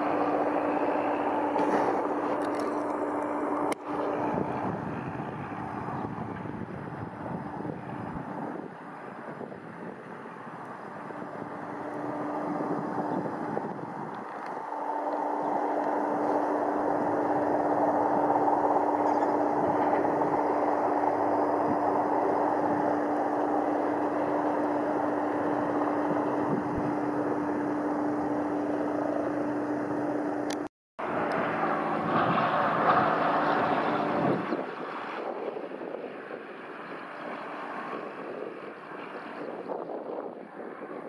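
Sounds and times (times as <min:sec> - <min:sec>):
light aircraft engine droning: 0:00.0 - 0:41.0.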